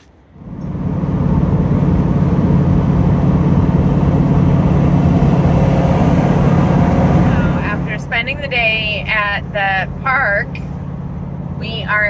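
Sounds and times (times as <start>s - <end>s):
road noise: 0.0s - 12.0s
van engine hum: 0.0s - 12.0s.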